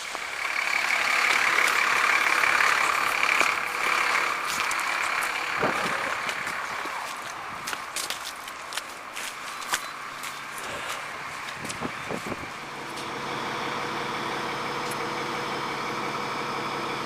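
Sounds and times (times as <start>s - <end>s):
vehicle passing on snowy street: 0.0s - 17.0s.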